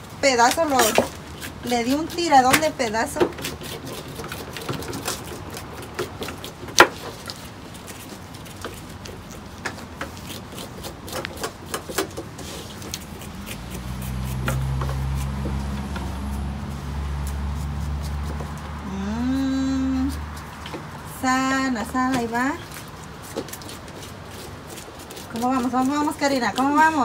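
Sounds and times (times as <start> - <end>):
knives scraping cactus pads: 0.2 - 16.6, 17.2 - 27.0.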